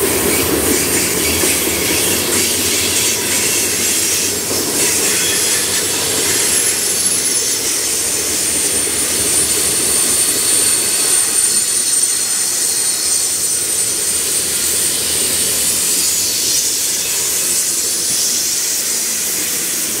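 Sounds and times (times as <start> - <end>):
freight train wheels rolling on rails: 0.0 - 20.0.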